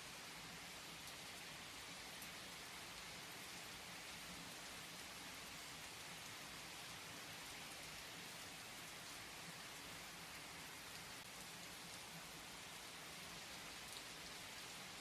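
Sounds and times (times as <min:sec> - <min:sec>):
faint raindrops: 0:00.0 - 0:15.0
steady rain falling: 0:00.0 - 0:15.0.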